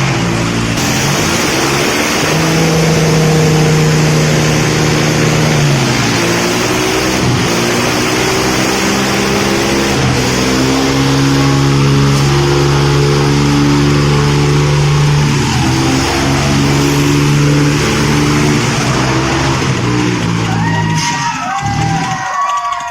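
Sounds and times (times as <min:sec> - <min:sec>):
tractor diesel engines straining: 0:00.0 - 0:22.9.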